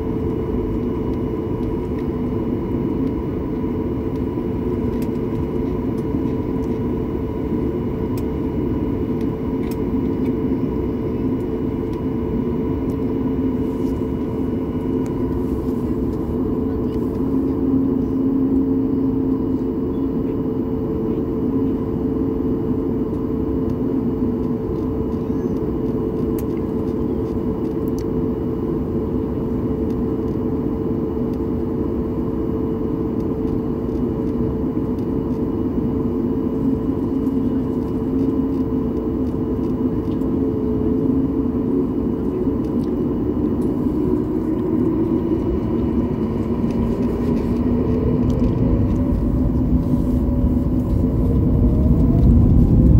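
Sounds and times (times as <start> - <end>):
jet engine drone with whine: 0.0 - 52.9.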